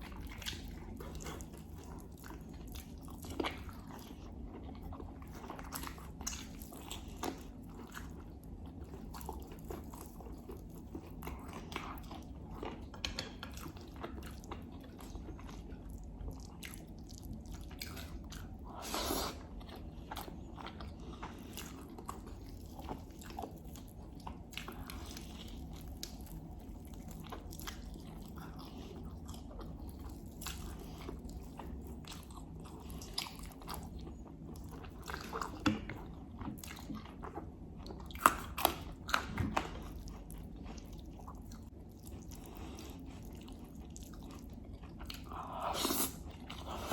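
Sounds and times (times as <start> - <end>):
person chewing: 0.0 - 46.9.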